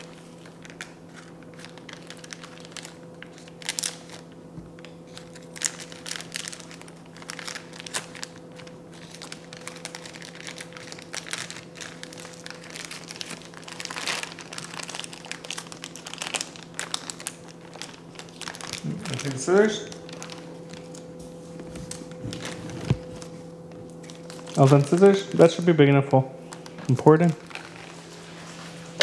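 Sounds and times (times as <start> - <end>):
packet crinkling: 0.0 - 25.8, 26.4 - 28.3
steady low hum: 0.0 - 29.0.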